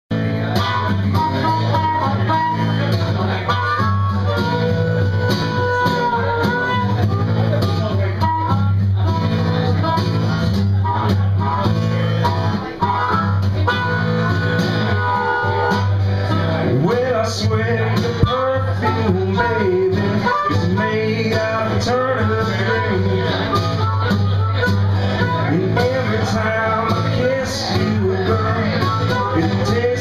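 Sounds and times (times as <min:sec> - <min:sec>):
acoustic guitar strumming: 0:00.1 - 0:30.0
bluesy harmonica lead: 0:00.1 - 0:30.0.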